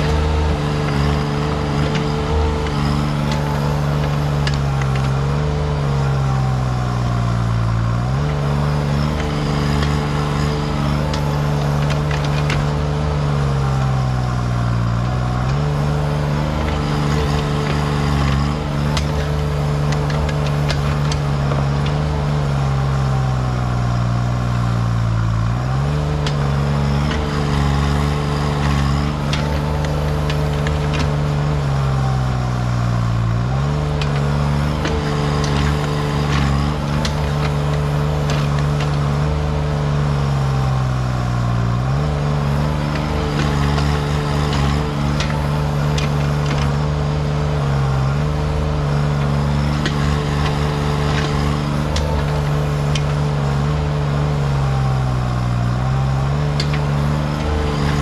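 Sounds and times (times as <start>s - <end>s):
diesel excavator engine running: 0.0s - 58.0s.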